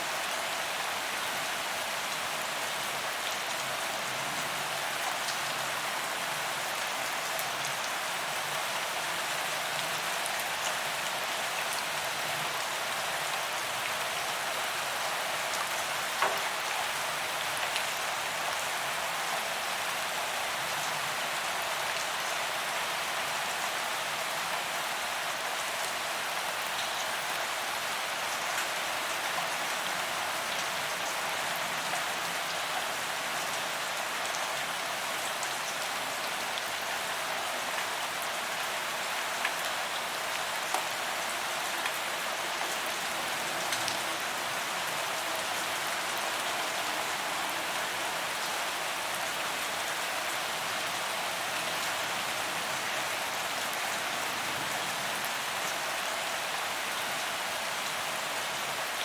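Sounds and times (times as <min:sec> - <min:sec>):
rain on pavement: 0:00.0 - 0:59.0.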